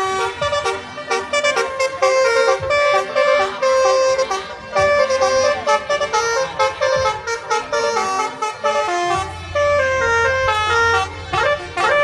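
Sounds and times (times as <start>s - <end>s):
multi-tone horn melody: 0.0s - 12.0s.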